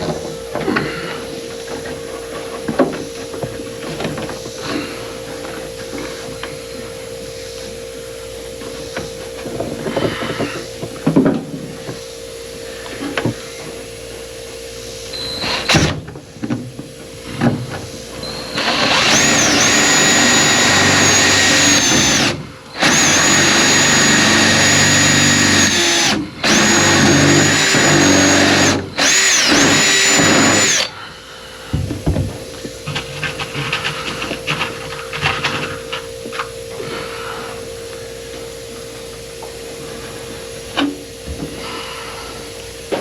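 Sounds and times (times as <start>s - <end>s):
power drill motor whine: 0.0s - 31.2s, 32.3s - 43.0s.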